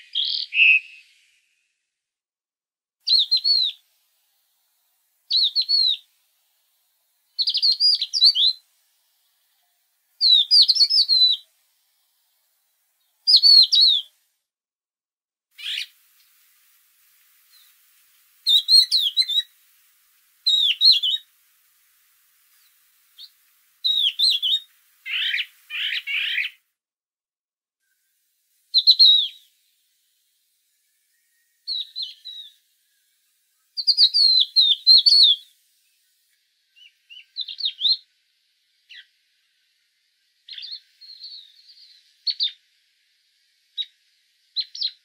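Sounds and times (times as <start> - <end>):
songbird singing: 0.0 - 1.4, 3.0 - 14.2, 15.6 - 21.8, 22.4 - 26.6, 28.7 - 29.6, 30.7 - 45.0.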